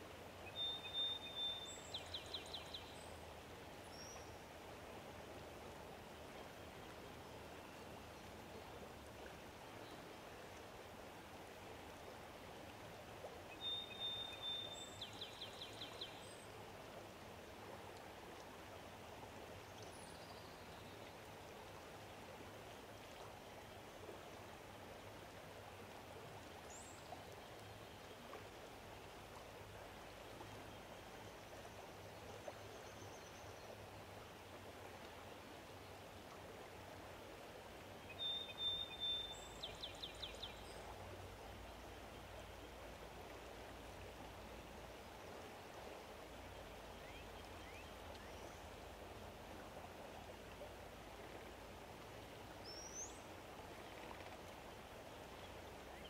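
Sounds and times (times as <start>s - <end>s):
low outdoor hiss: 0.0s - 56.0s.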